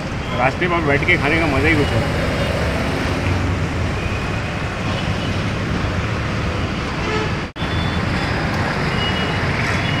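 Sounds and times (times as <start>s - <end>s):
passing vehicle engines: 0.0s - 10.0s.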